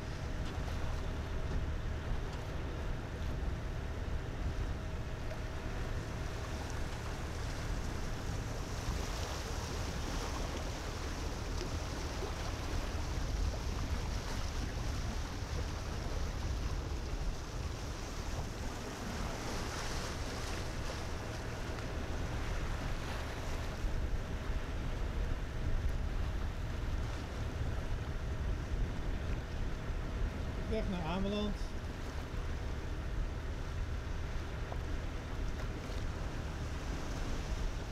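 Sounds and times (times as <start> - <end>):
boat engine droning: 0.0 - 37.9
water rushing past hull: 0.0 - 37.9.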